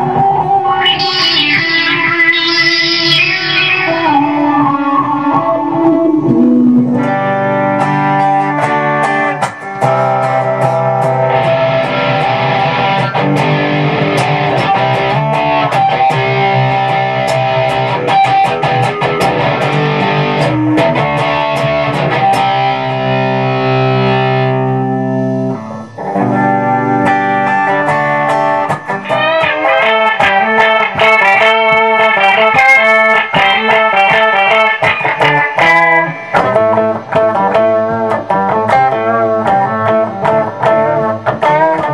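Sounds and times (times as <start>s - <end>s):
distorted electric guitar: 0.0s - 41.9s.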